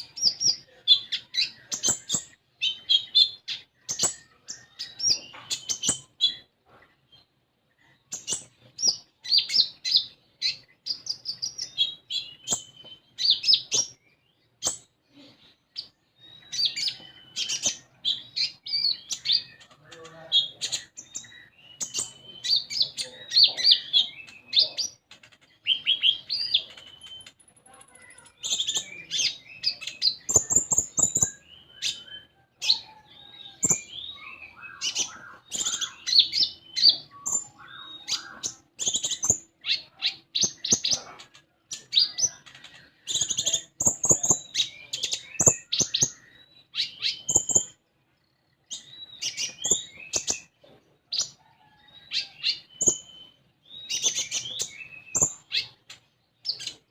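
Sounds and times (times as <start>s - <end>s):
songbird chirps and trills: 0.0s - 56.9s.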